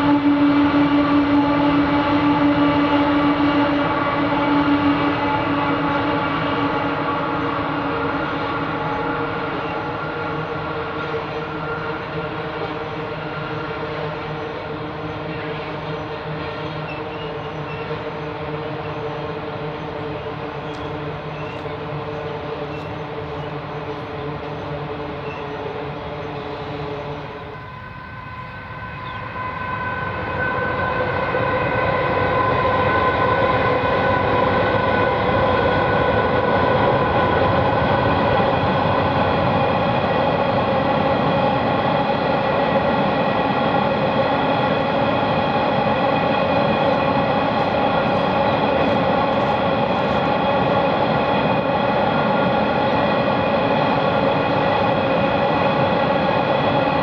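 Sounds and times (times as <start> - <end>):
train wagons rumbling over bridge: 0.0 - 57.0.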